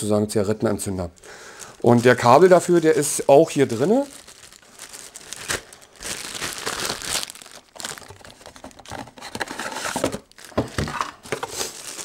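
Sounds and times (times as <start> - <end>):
plastic bag crinkling: 1.2 - 12.0.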